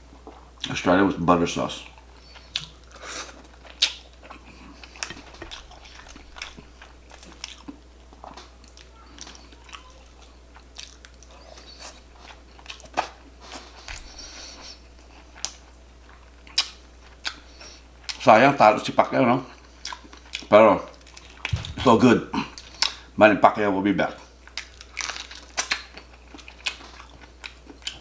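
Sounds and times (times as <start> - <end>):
person chewing shrimp: 1.8 - 18.2, 19.5 - 23.2, 24.3 - 28.0.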